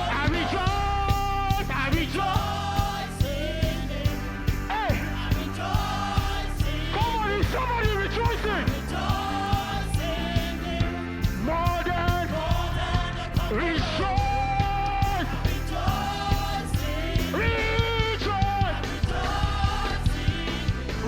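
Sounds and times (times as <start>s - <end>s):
band playing: 0.0s - 21.0s
gospel singers: 0.0s - 21.0s.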